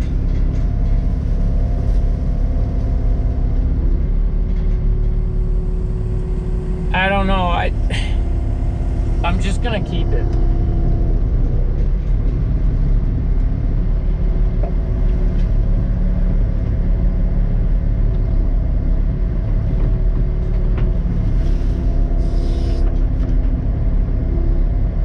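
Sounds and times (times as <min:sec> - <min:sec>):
excavator diesel engine droning: 0:00.0 - 0:25.0.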